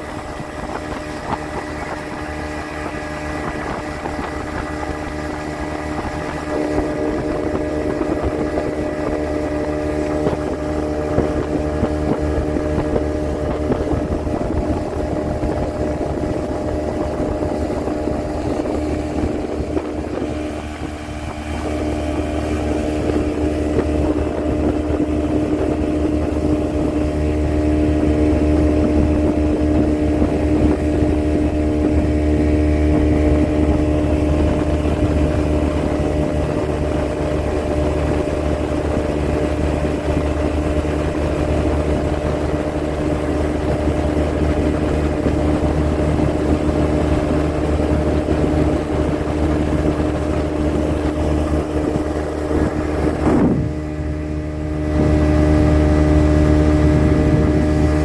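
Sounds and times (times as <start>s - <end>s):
speedboat engine humming: 0.0s - 58.0s.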